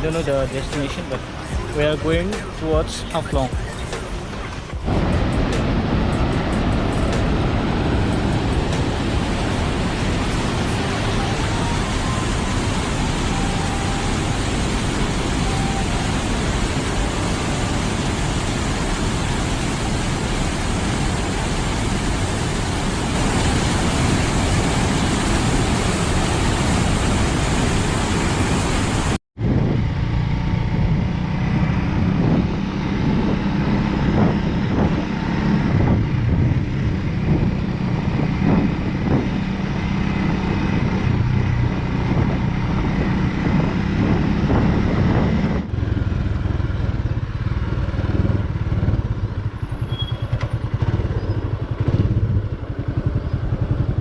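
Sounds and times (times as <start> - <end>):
wind rushing over microphone: 0.0 - 49.8, 50.6 - 54.0
motorcycle engine drone: 0.0 - 54.0.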